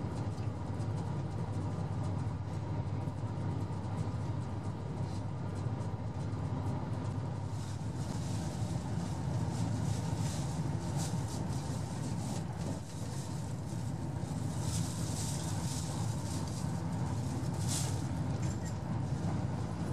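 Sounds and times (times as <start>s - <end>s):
train engine and wheels rumbling: 0.0s - 19.9s.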